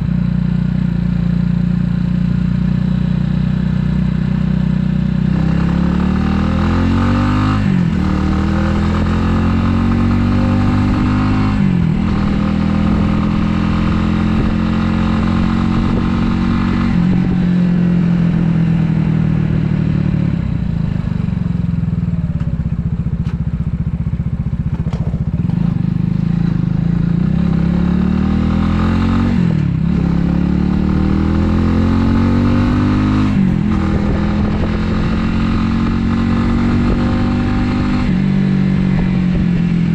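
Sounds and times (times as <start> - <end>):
motorcycle engine shifting gears: 0.1 - 39.9.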